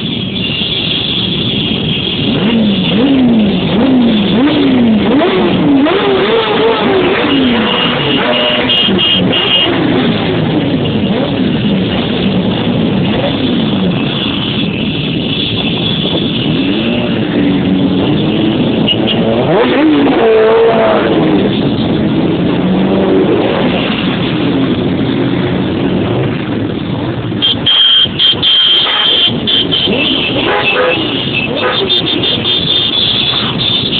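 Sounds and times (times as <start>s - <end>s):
engines running: 0.0s - 33.9s
motorcycle engines revving: 0.0s - 33.9s.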